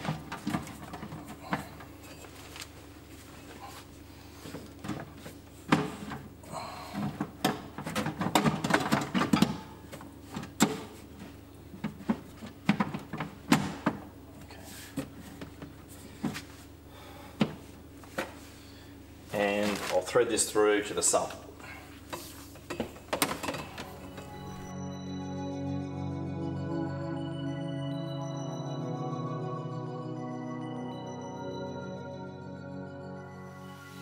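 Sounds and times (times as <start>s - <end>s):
steady low hum: 0.0s - 27.5s.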